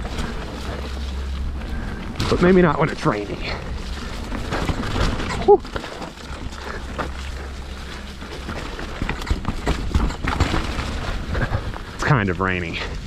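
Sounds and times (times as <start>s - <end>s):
bike rattling and knocking: 0.0s - 13.0s
mountain bike rumble: 0.0s - 13.0s.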